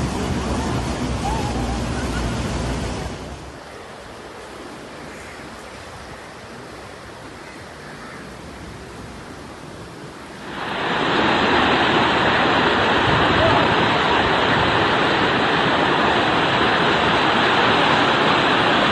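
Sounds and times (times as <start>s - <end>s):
heavy rain: 0.0s - 18.9s.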